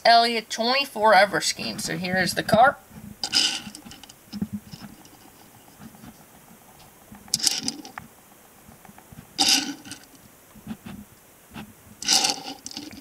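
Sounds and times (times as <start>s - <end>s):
microphone handling noise: 1.5s - 13.0s.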